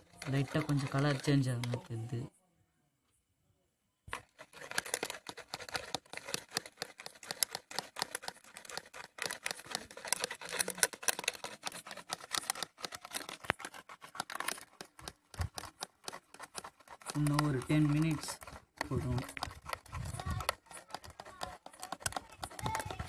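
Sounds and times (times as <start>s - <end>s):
spoon beating mixture in bowl: 0.0s - 2.1s, 4.1s - 23.0s.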